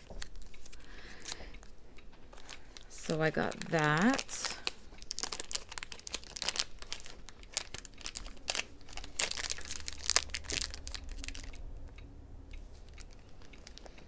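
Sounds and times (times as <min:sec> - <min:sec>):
packaging crinkling: 0:00.0 - 0:01.7, 0:02.3 - 0:11.6, 0:12.8 - 0:14.0.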